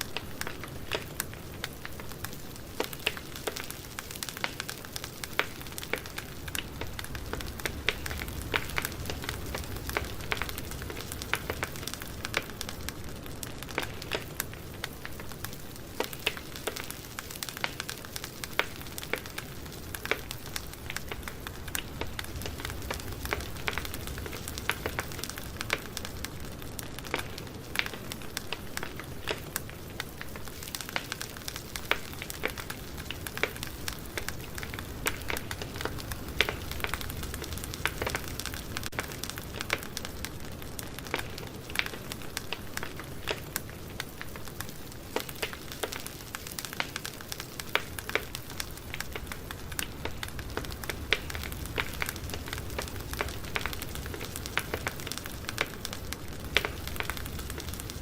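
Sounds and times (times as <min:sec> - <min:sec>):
burning wood crackling and popping: 0:00.0 - 0:58.0
campfire hissing: 0:00.0 - 0:58.0.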